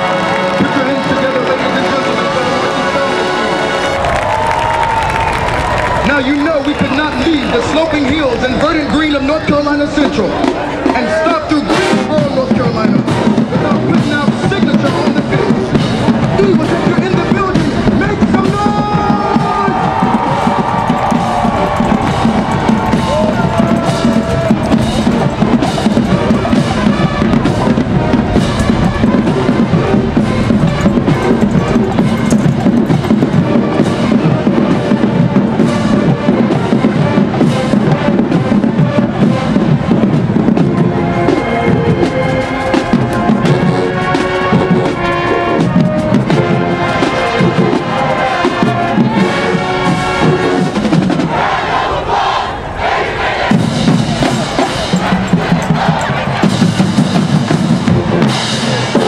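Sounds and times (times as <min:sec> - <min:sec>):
brass held chords: 0:00.0 - 0:59.0
marching band playing: 0:00.0 - 0:59.0
snare and bass drums: 0:04.5 - 0:51.6, 0:53.4 - 0:59.0.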